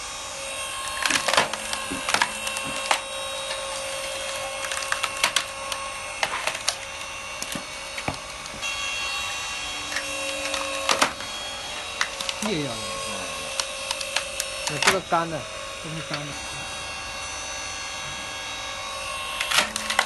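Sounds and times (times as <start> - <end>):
log splitter whining: 0.0 - 20.0
wood cracking and splintering: 0.4 - 8.8, 9.8 - 16.4, 18.8 - 20.0.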